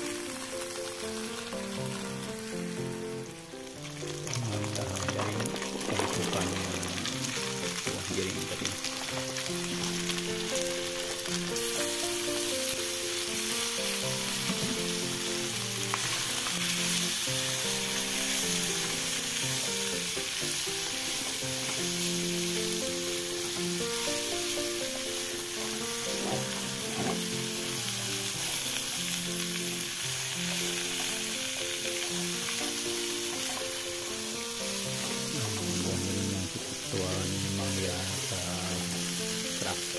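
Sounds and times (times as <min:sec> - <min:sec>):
beans sizzling in oil: 0:00.0 - 0:39.9
soft background music: 0:00.0 - 0:39.9.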